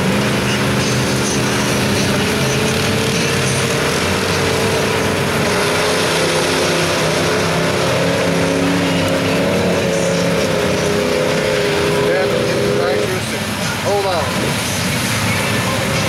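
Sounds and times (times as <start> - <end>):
truck engine revving: 0.0 - 16.0
tyres churning through mud: 0.0 - 16.0.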